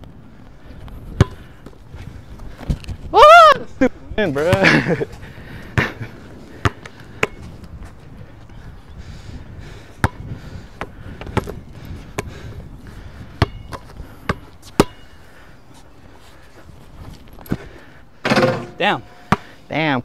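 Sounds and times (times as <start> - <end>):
wind rumble on microphone: 0.0 - 18.2.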